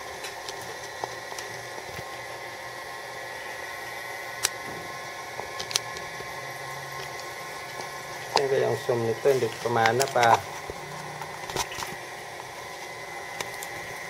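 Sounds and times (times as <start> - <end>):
faint whines: 0.0 - 14.0.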